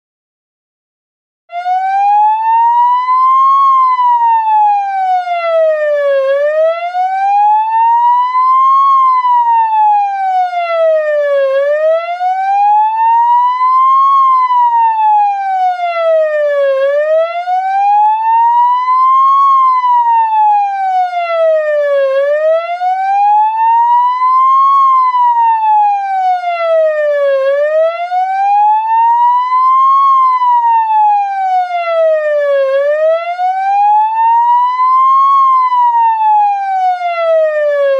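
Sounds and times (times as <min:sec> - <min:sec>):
electronic siren wailing: 0:01.5 - 0:37.9.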